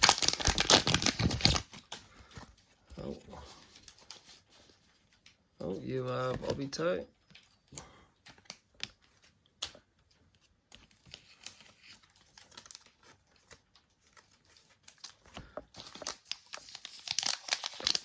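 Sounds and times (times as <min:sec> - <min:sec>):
card wrapper crinkling: 0:00.0 - 0:05.3, 0:08.3 - 0:18.0.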